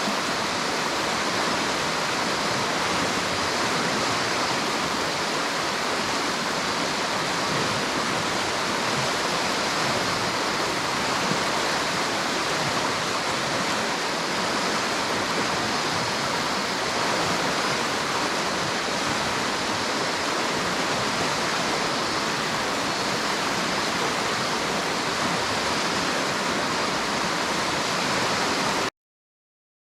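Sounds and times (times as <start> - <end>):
river water rushing and splashing: 0.0 - 28.9.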